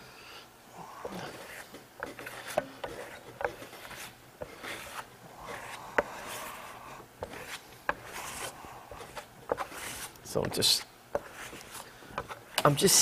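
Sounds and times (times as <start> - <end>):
trowel scraping plaster: 1.2 - 12.5.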